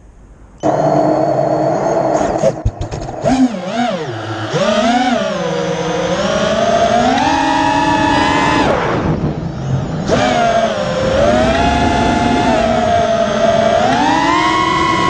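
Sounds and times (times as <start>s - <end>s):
drone motors whining: 0.6s - 15.0s.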